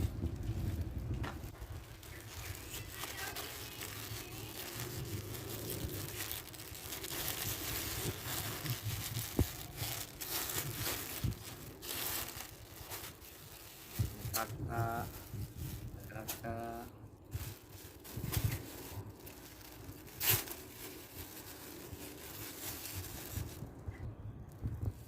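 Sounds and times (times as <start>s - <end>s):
plastic packaging tearing and crinkling: 0.0s - 23.9s.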